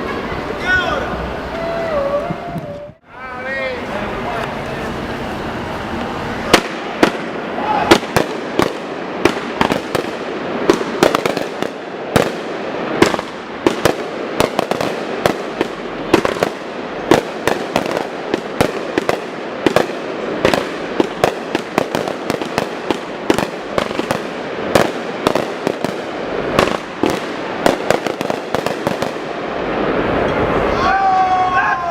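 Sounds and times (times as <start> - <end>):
fireworks crackling: 0.0 - 31.9
fireworks bangs: 3.6 - 31.9.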